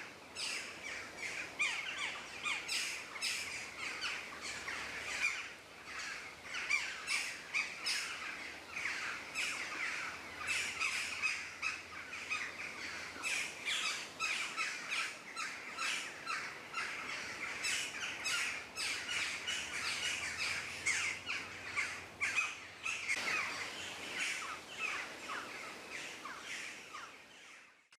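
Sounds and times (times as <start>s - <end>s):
birds chirping chorus: 0.0s - 27.9s.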